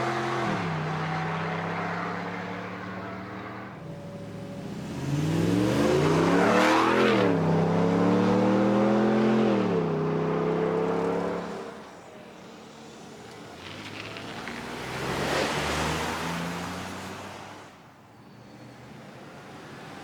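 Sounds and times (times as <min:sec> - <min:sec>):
car engine accelerating: 0:00.0 - 0:17.7.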